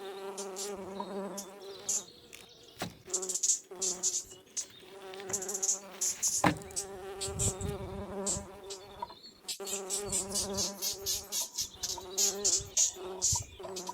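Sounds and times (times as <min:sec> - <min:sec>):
insects buzzing: 0:00.0 - 0:13.9.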